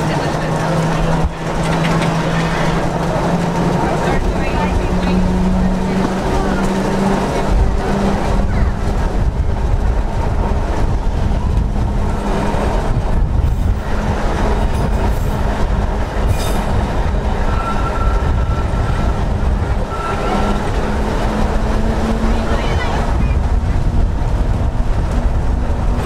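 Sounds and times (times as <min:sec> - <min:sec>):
tram wheels rumbling on rail: 0:00.0 - 0:26.0.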